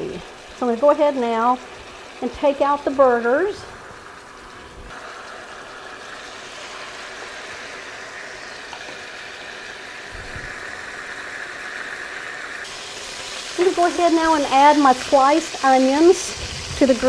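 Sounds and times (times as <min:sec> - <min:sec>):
oil sizzling in a skillet: 0:00.0 - 0:17.0.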